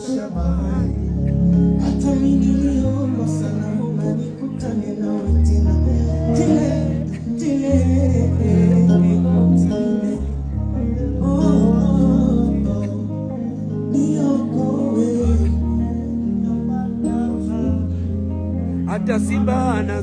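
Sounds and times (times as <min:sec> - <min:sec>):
deep bass notes: 0:00.0 - 0:20.0
live band playing: 0:00.0 - 0:20.0
man singing into a microphone: 0:00.0 - 0:20.0.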